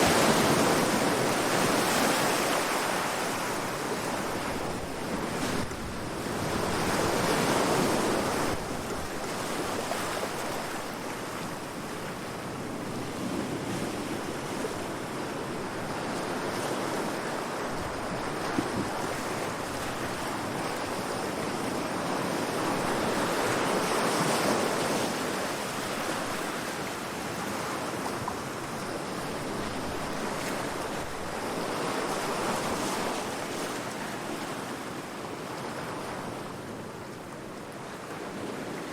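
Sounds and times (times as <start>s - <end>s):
calm sea waves washing ashore: 0.0s - 38.9s.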